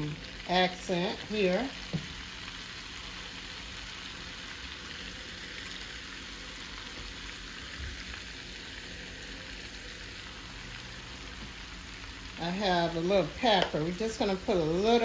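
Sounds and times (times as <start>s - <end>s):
butter and oil sizzling in a pan: 0.0s - 15.0s.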